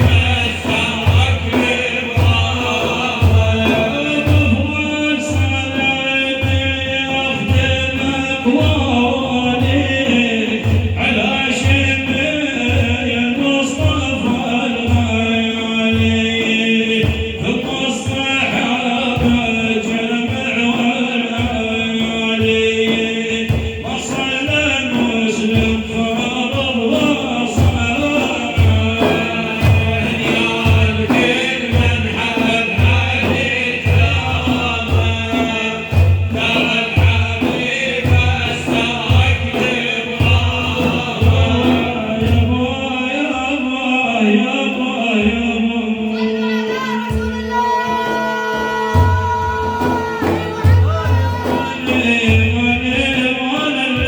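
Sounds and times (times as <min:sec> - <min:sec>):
low drum beat: 0:00.0 - 0:44.2, 0:44.8 - 0:54.0
male voices chanting a melody: 0:00.0 - 0:54.0.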